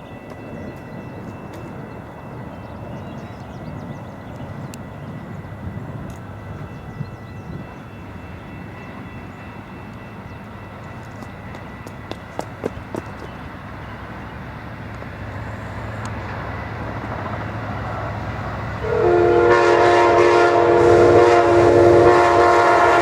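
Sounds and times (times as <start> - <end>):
diesel train running: 0.0 - 23.0.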